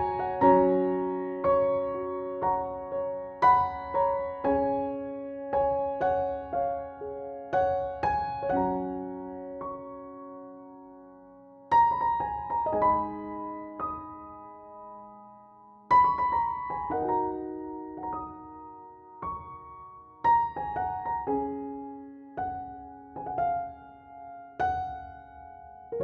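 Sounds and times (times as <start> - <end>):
gentle piano music: 0.0 - 26.0.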